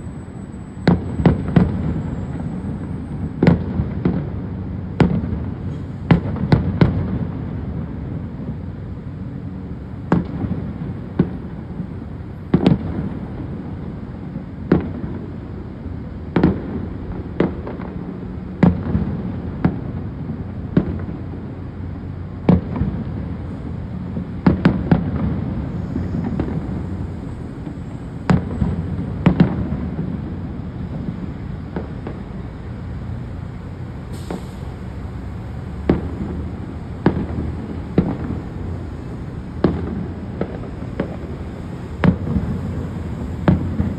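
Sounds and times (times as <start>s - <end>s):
fireworks bangs: 0.0s - 8.8s, 9.9s - 43.9s.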